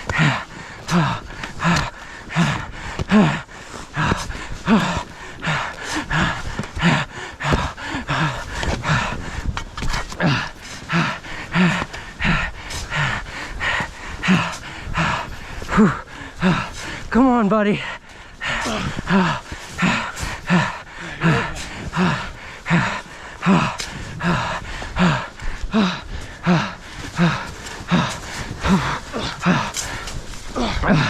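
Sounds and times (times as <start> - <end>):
man panting hard: 0.0 - 31.0.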